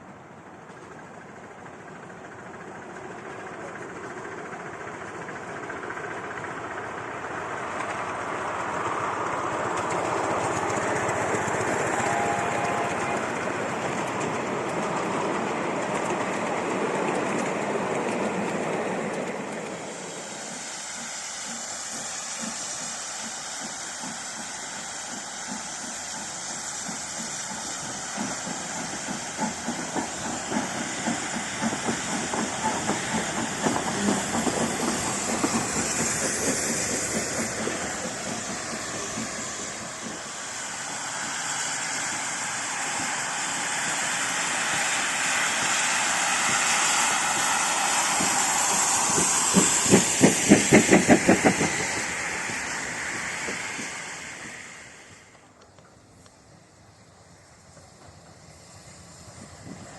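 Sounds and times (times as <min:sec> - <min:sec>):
steam hissing: 0:00.0 - 0:59.9
train wheels clattering: 0:00.5 - 0:56.6
rushing noise: 0:04.8 - 0:55.6.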